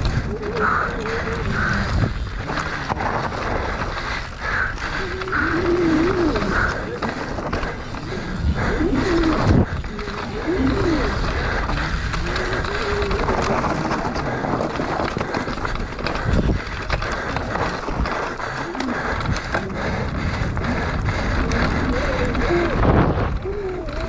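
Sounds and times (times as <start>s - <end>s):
bike chain and frame rattling: 0.0s - 24.0s
bike tyres crunching over dirt: 0.0s - 24.0s.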